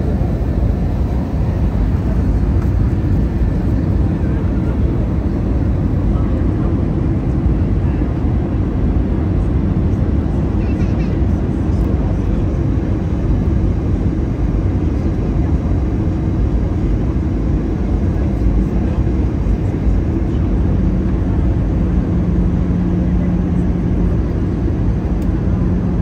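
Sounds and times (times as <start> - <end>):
airliner cabin engine noise: 0.0 - 26.0.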